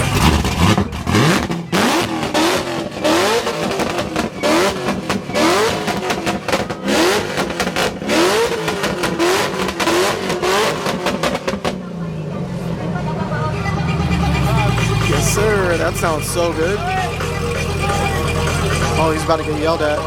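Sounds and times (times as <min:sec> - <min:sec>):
car engine revving: 0:00.0 - 0:20.0
sharp exhaust cracks: 0:00.0 - 0:20.0.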